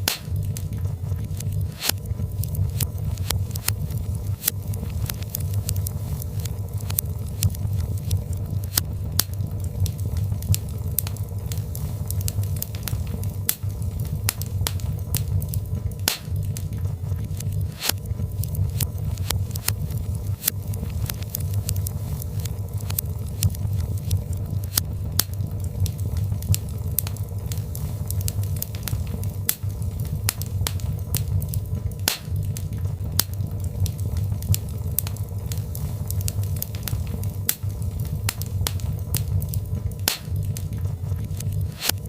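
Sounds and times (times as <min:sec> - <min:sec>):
fire popping and snapping: 0:00.0 - 0:42.0
low rumble of burning fire: 0:00.0 - 0:42.0.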